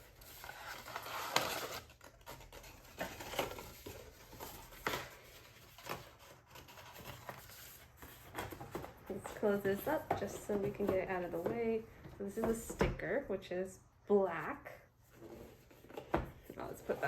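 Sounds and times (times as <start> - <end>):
paper and cardboard rustling: 0.0 - 12.8, 15.0 - 17.0.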